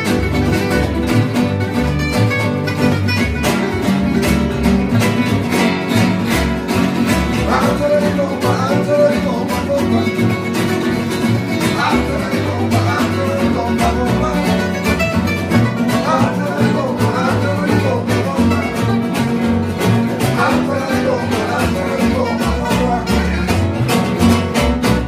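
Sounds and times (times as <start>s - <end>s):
acoustic guitars strumming: 0.0s - 25.0s
lead guitar line: 0.0s - 25.0s
plucked double bass: 0.0s - 25.0s.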